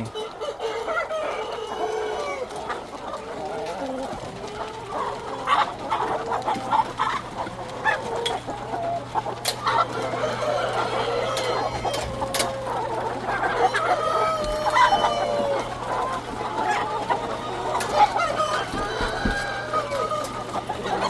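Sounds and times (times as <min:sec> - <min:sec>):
chickens clucking and squawking: 0:00.0 - 0:21.0.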